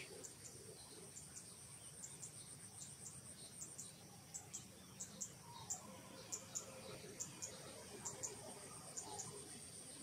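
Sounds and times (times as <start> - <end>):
high insect chirps: 0.0 - 10.0
insect drone whine: 0.0 - 10.0.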